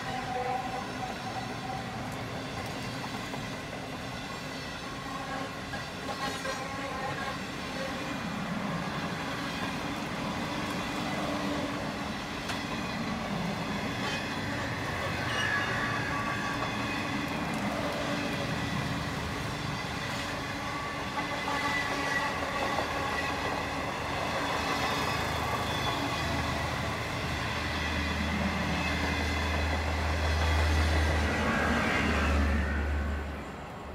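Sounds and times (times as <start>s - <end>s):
train wheels running on rails: 0.0s - 33.9s.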